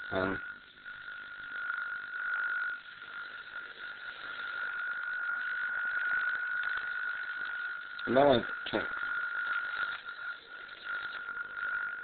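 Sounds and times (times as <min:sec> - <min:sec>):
faint hiss: 0:00.0 - 0:12.0
ultrasonic probe high whine: 0:00.0 - 0:12.0.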